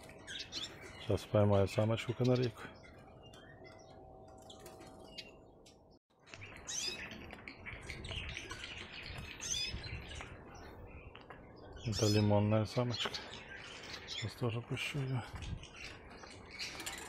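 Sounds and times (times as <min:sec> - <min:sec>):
cage birds chirping: 0:00.0 - 0:17.0.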